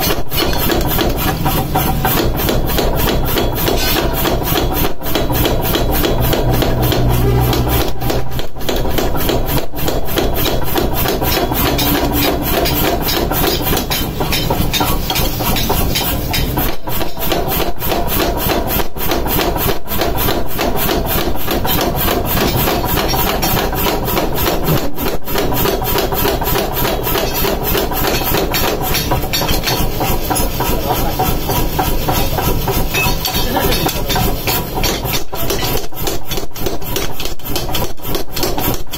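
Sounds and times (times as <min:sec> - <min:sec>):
power hammer pounding steel: 0:00.0 - 0:38.9.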